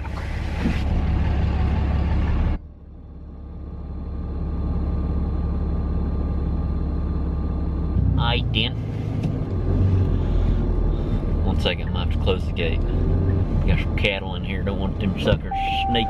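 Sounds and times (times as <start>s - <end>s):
outside noise: 0.0s - 16.0s
truck engine idling: 0.0s - 16.0s.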